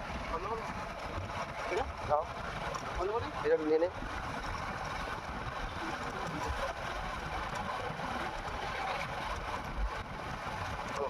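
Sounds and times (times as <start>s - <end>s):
vehicle rumbling: 0.0s - 11.0s.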